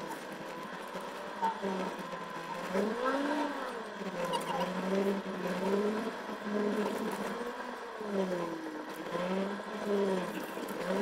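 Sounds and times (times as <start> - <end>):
car engine revving while driving: 0.0 - 11.0.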